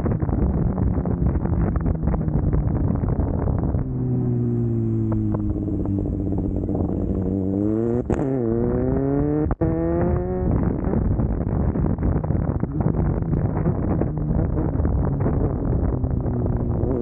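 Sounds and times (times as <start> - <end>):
motorcycle engine revving: 0.0 - 17.0
wind buffeting microphone: 0.0 - 17.0.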